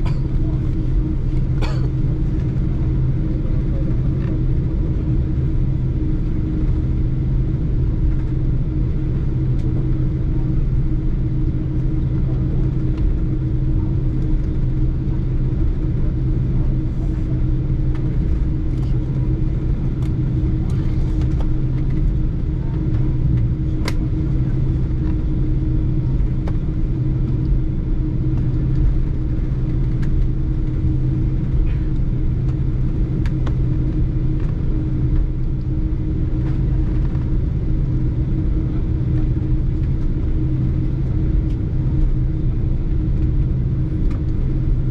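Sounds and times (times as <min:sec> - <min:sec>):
airliner engines running: 0:00.0 - 0:44.9.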